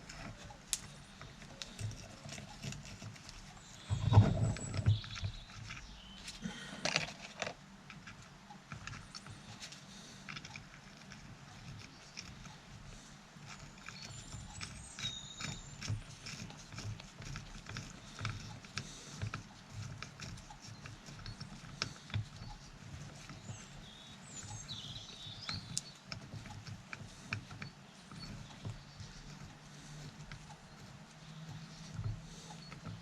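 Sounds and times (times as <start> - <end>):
metal parts clicking and knocking: 0.0 - 33.0.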